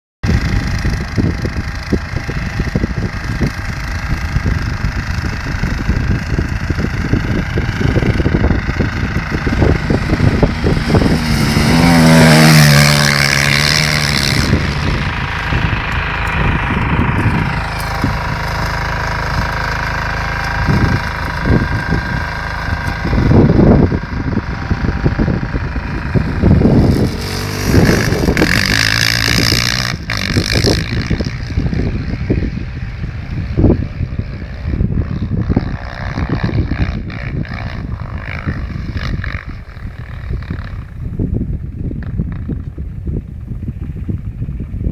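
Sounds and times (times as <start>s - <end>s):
quad bike engine revving: 0.2s - 42.8s
wind buffeting microphone: 0.2s - 44.9s.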